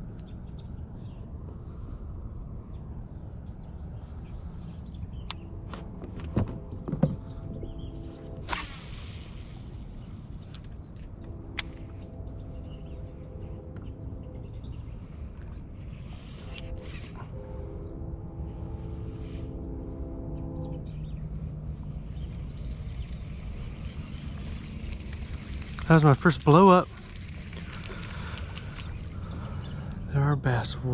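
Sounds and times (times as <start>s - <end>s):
insects droning: 0.0s - 30.9s
low outdoor rumble: 0.0s - 30.9s.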